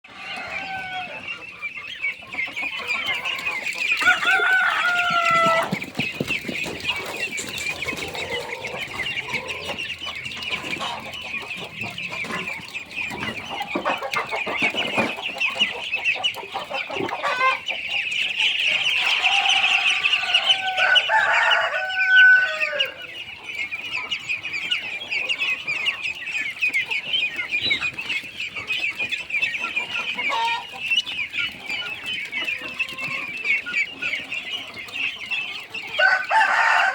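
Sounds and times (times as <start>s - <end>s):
chickens and ducks clucking and calling: 0.0s - 36.9s.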